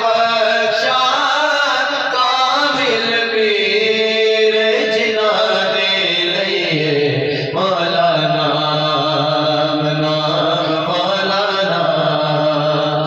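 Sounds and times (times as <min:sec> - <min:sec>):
devotional chanting: 0:00.0 - 0:13.0.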